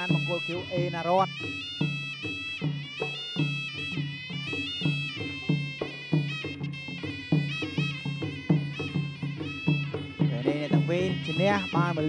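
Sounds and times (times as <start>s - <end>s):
reed oboe melody: 0.0s - 12.0s
steady drum beat: 0.0s - 12.0s.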